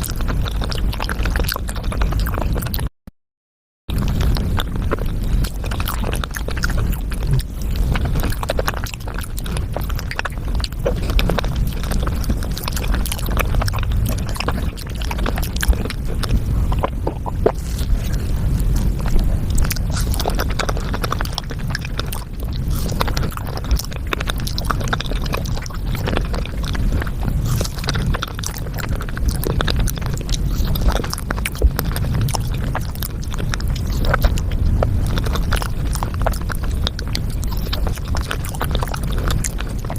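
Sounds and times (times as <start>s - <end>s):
sped up eating sounds: 0.0s - 2.9s, 3.9s - 39.9s
low rumble: 3.9s - 39.9s.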